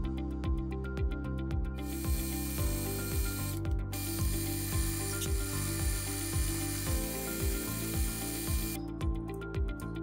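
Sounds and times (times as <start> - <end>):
background music with kick drum: 0.0 - 10.0.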